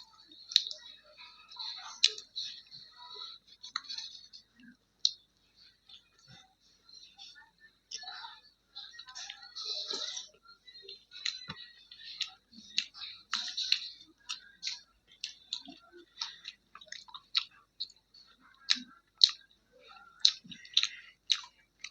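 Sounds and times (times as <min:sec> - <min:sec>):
chewing with wet mouth clicks: 0:00.0 - 0:06.4, 0:08.8 - 0:21.9.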